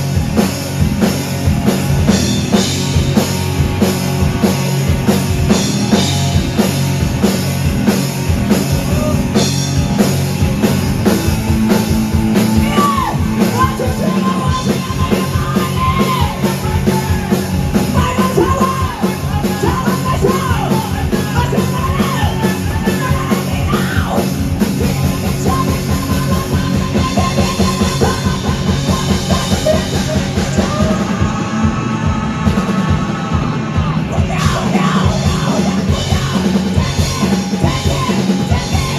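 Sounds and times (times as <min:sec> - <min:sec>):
drums: 0:00.0 - 0:38.9
rock band playing live: 0:00.0 - 0:38.9
yelled sung vocals: 0:00.0 - 0:38.9.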